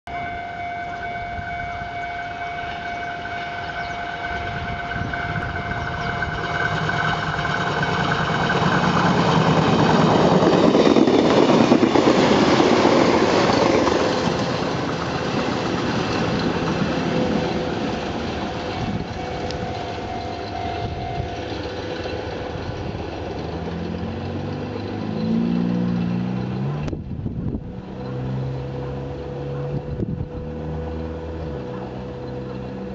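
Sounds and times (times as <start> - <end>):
train rumbling and clattering past: 0.1 - 32.9.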